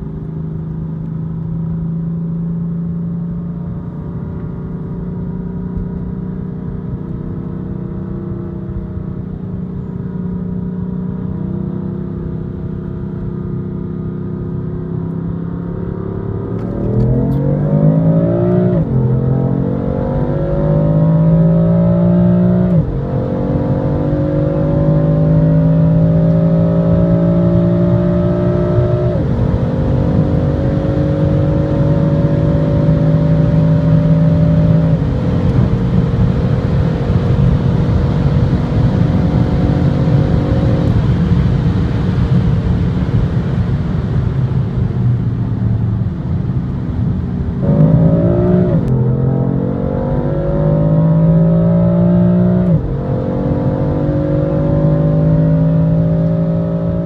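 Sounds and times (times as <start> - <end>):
car engine accelerating through gears: 0.0 - 57.0.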